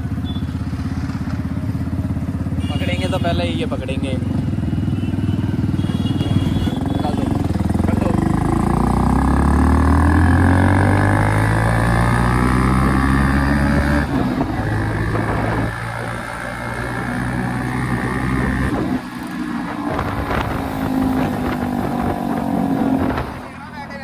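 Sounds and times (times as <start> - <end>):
motorcycle engine running: 0.0 - 23.5.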